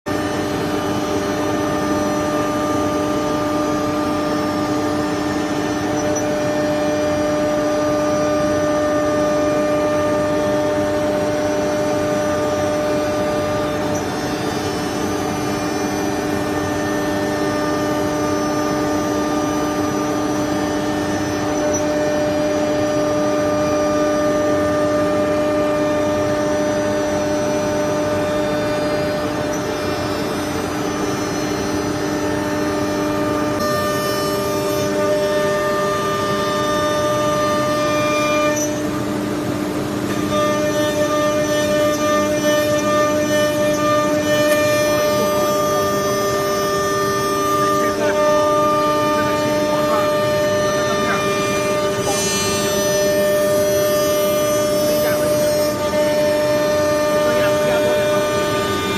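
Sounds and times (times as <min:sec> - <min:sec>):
router spindle whining: 0:00.1 - 0:58.9.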